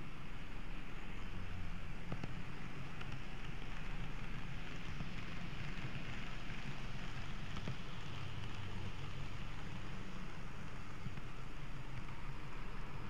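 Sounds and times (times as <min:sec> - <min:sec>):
model train humming: 0:00.0 - 0:13.0.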